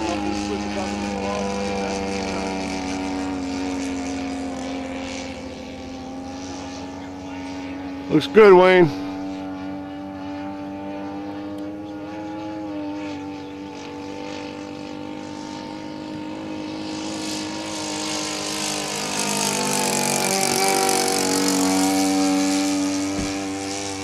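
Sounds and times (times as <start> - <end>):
model aircraft engine flying past: 0.0 - 24.0.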